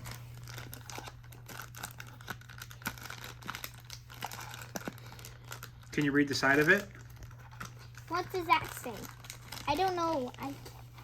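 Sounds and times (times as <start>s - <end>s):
cardboard packaging crinkling: 0.0s - 11.0s.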